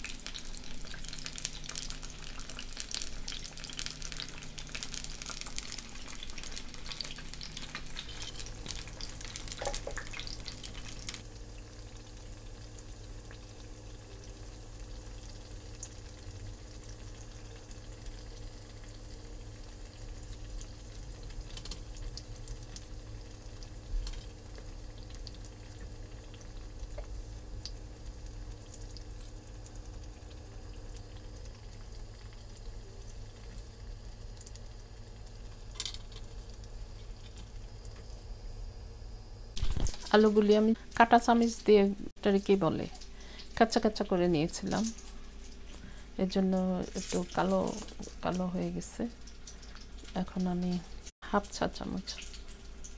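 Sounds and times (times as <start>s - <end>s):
potato slices deep-frying in oil: 0.0s - 52.9s.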